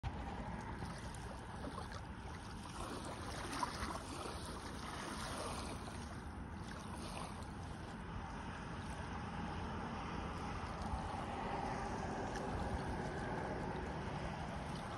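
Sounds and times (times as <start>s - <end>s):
water rippling: 0.0s - 14.9s
wind rumble on microphone: 0.0s - 14.9s.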